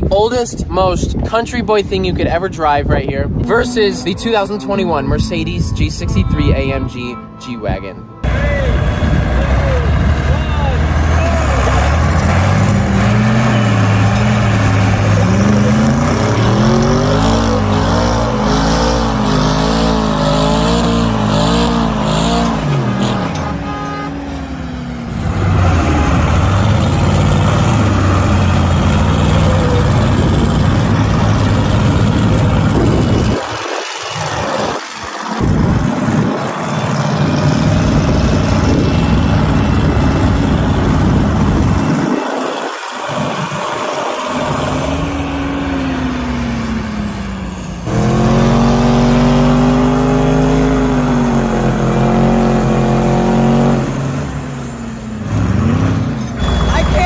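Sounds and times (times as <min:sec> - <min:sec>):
engines under hard throttle: 0:00.0 - 0:07.0, 0:08.2 - 0:57.0.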